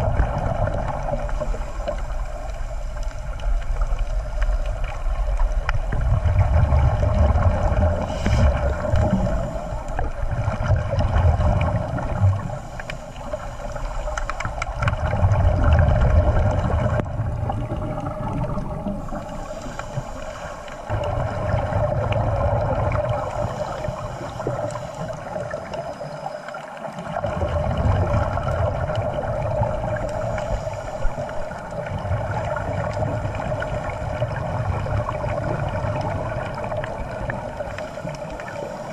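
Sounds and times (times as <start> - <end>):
steady underwater drone: 0.0 - 38.9
underwater rumbling and bubbling: 0.0 - 38.9.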